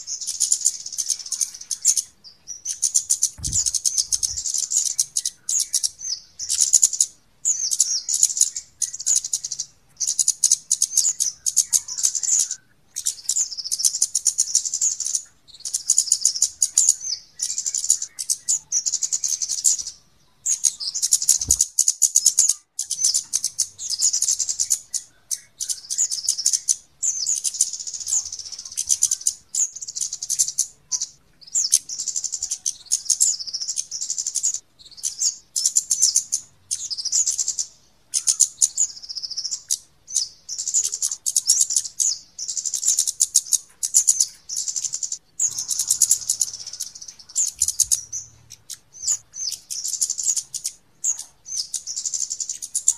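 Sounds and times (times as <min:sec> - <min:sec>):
high-pitched bird chirps: 0:00.0 - 0:52.9.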